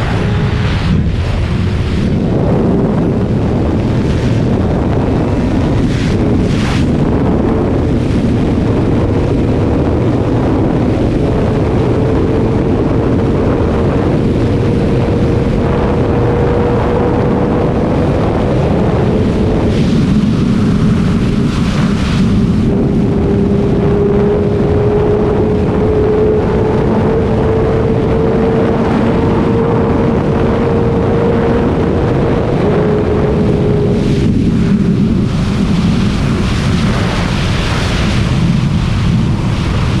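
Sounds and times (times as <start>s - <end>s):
motorcycle engine at speed: 0.0s - 40.0s
wind noise on microphone: 0.0s - 40.0s.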